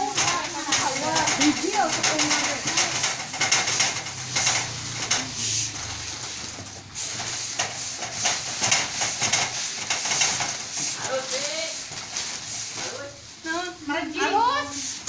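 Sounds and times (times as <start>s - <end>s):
steam iron hissing: 0.0s - 13.6s, 14.2s - 15.0s.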